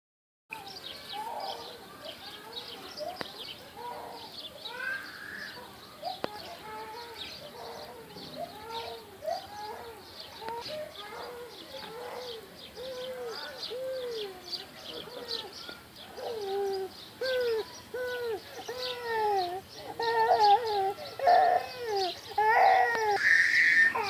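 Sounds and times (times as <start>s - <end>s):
chorus of animal calls: 0.7s - 24.0s.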